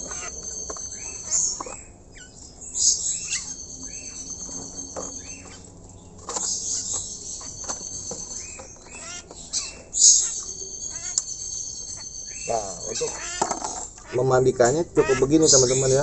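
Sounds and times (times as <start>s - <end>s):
insect trill: 0.0s - 14.0s
bird chirping: 0.0s - 16.0s.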